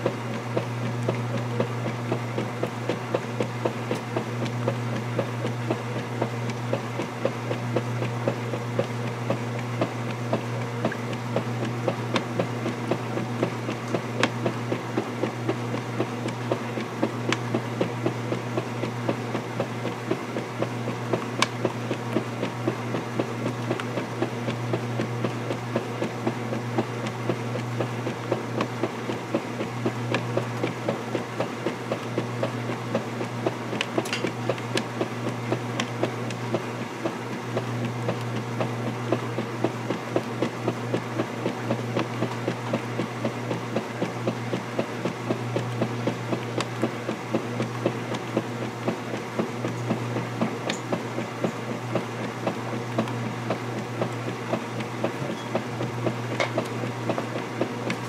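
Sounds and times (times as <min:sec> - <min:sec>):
washer agitator churning: 0:00.0 - 0:58.0
washer motor hum: 0:00.0 - 0:58.0.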